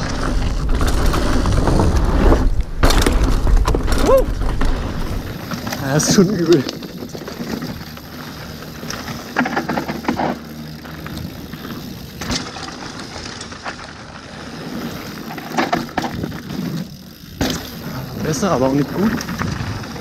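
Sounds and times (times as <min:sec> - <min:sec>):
bike knocking over bumps: 0:00.0 - 0:13.9, 0:15.2 - 0:17.9
bike tyres rolling over dirt: 0:00.0 - 0:20.0.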